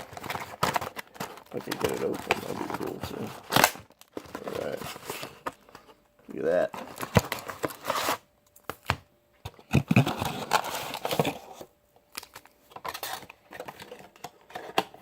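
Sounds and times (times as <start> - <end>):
card packs crinkling and rustling: 0.0 - 15.0.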